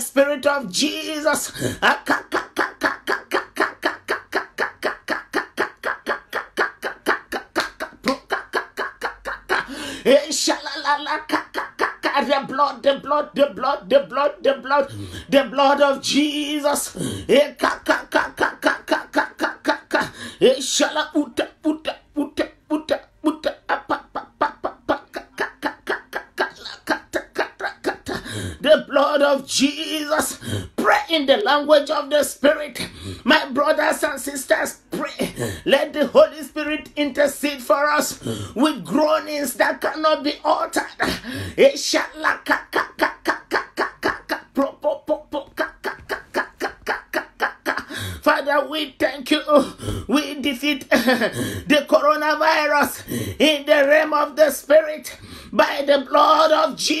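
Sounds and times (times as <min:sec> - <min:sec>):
woman chanting rapid syllables: 0:00.0 - 0:57.0
woman praying aloud: 0:00.0 - 0:57.0.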